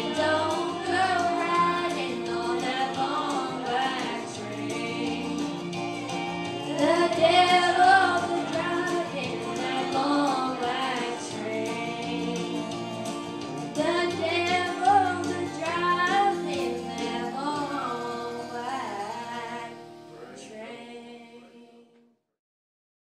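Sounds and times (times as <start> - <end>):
woman singing: 0.0 - 5.6, 6.6 - 12.8, 13.7 - 21.9
instrumental backing track: 0.0 - 21.6.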